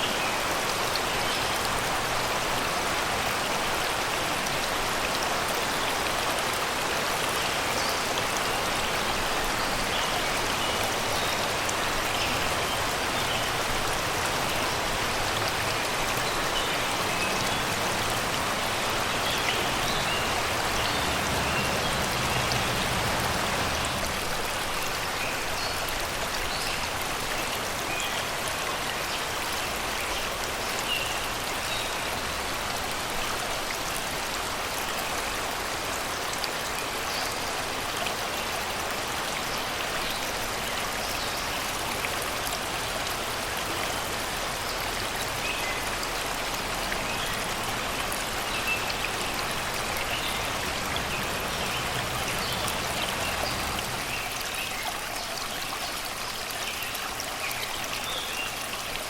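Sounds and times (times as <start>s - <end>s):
river flowing over rocks: 0.0s - 59.0s.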